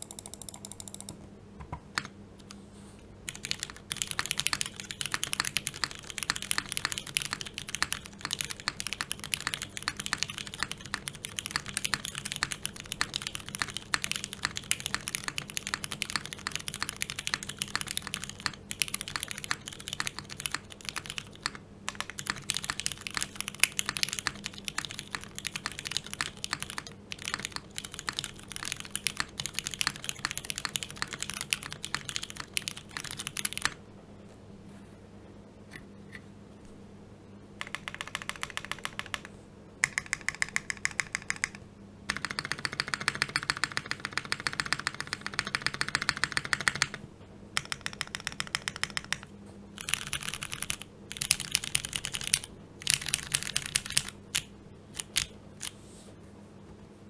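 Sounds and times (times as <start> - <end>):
fast typing on mechanical keyboard: 0.0 - 1.2, 3.3 - 33.8, 37.6 - 47.0, 47.6 - 55.7.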